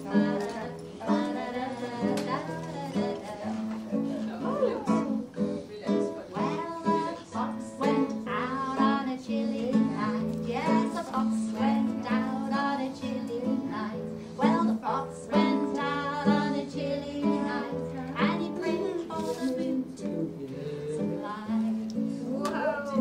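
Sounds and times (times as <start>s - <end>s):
acoustic guitar playing: 0.0s - 23.0s
voices singing: 0.0s - 23.0s.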